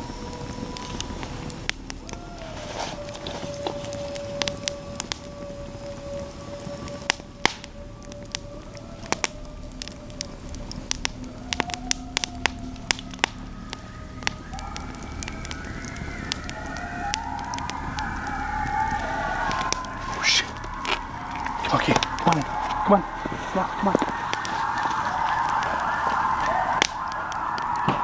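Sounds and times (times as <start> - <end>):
campfire crackling and popping: 0.0 - 28.0
wavering howl: 0.0 - 28.0.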